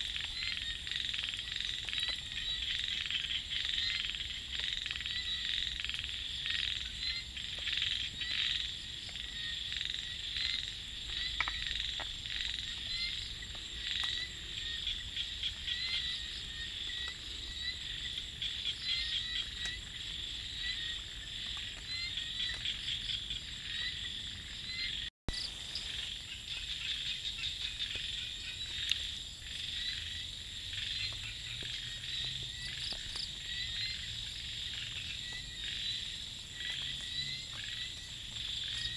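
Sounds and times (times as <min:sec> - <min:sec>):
frogs croaking in chorus: 0:00.0 - 0:38.9
insects trilling: 0:00.0 - 0:38.9.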